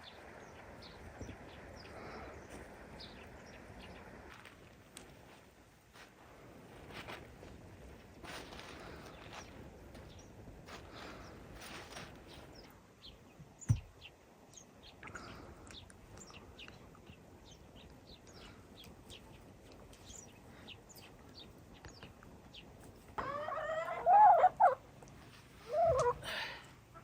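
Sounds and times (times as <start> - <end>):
small birds chirping: 0.0 - 4.6, 8.2 - 27.0.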